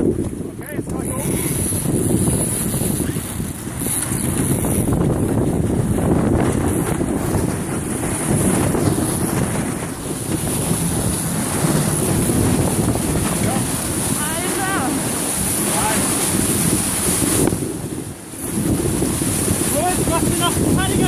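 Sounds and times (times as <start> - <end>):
water rushing along hull: 0.0 - 21.0
wind buffeting microphone: 0.0 - 21.0.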